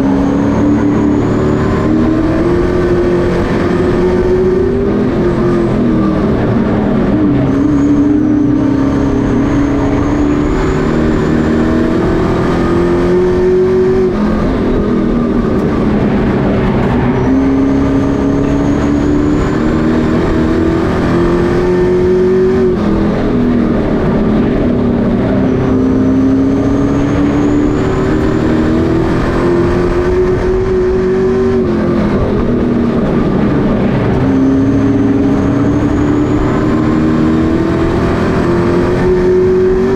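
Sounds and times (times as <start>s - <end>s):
racing truck engines revving: 0.0s - 39.9s.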